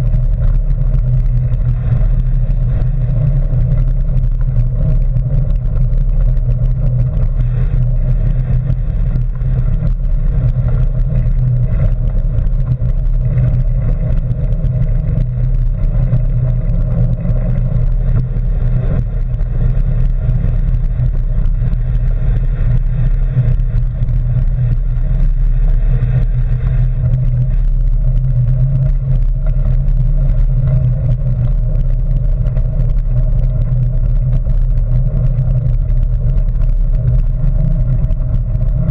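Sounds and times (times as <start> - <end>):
bicycle tyre and frame rumble: 0.0 - 38.9.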